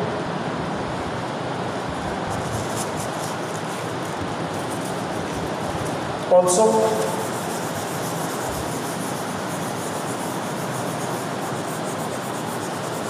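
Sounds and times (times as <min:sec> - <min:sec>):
steady hiss: 0:01.8 - 0:13.0
marker scratching on whiteboard: 0:02.4 - 0:13.0.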